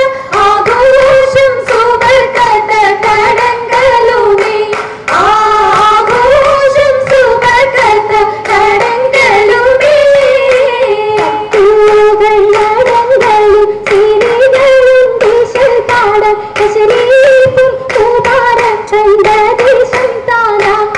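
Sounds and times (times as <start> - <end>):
girls singing in unison: 0.0 - 20.9
rhythmic hand claps: 0.0 - 20.9.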